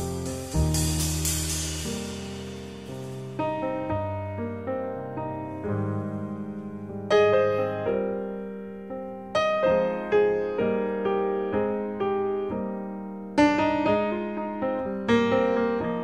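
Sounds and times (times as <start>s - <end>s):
slow solo piano piece: 0.0s - 16.0s.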